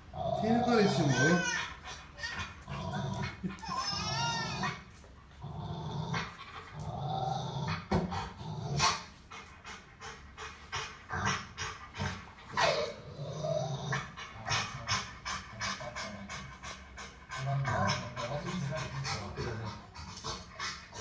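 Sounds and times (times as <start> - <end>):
dog growling: 0.0 - 21.0.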